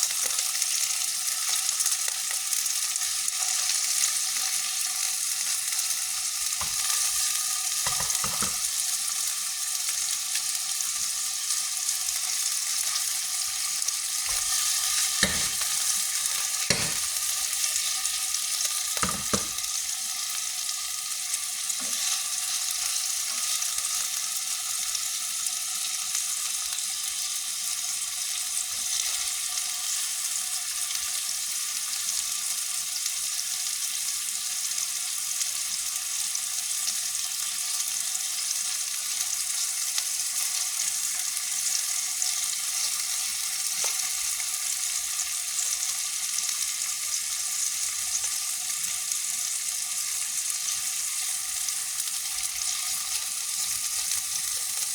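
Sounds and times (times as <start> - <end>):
food sizzling in hot oil: 0.0 - 54.9.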